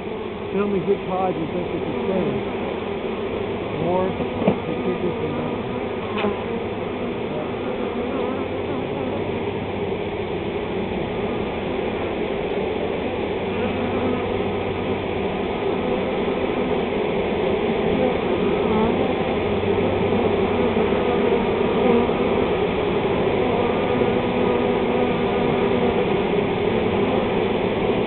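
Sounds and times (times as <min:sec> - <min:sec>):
bee swarm buzzing: 0:00.0 - 0:28.0.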